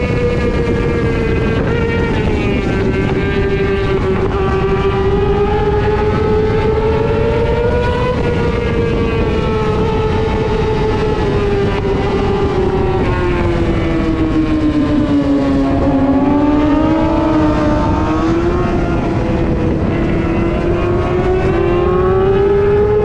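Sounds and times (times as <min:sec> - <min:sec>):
racing motorcycle engine revving: 0:00.0 - 0:23.0
wind and road noise: 0:00.0 - 0:23.0.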